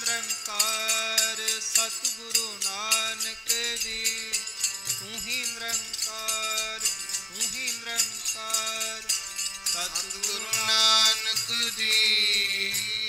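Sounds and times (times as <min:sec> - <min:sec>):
harmonium notes: 0:00.0 - 0:13.0.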